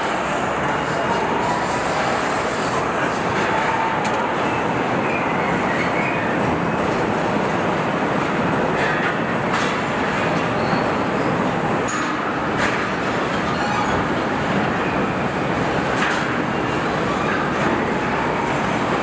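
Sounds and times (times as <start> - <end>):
machinery and conveyors running: 0.0 - 19.0.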